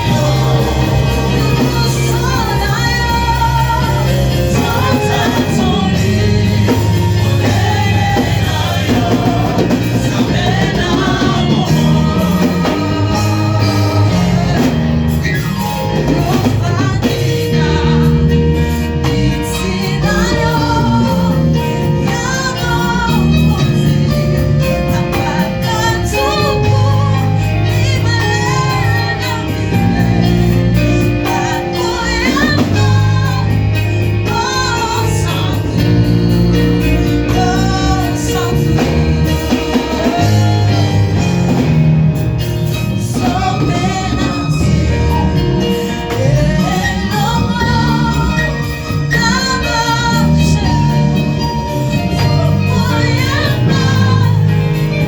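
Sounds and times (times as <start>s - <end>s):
voices singing: 0.0s - 41.9s, 42.6s - 55.0s
instrumental accompaniment: 0.0s - 55.0s
low bass notes: 0.0s - 55.0s.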